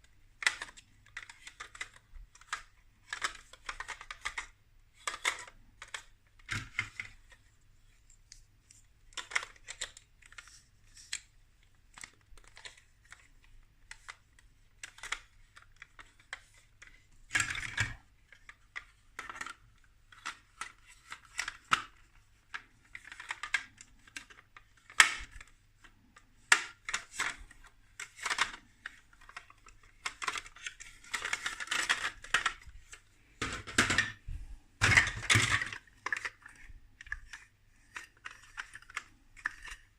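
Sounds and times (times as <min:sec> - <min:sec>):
plastic building blocks clicking: 0:00.4 - 0:07.4, 0:09.1 - 0:11.3, 0:11.9 - 0:34.2, 0:34.8 - 0:39.9.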